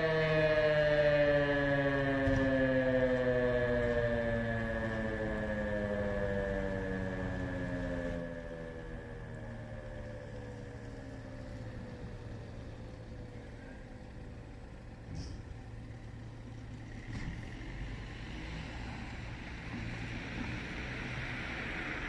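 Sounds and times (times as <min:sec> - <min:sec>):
fire engine running: 0:00.0 - 0:22.0.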